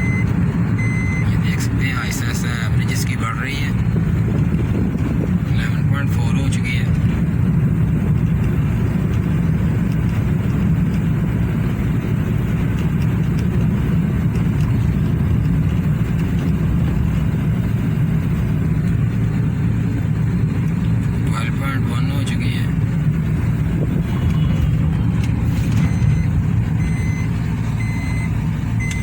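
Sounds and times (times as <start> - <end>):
car engine running: 0.0 - 29.0
road noise inside car: 0.0 - 29.0.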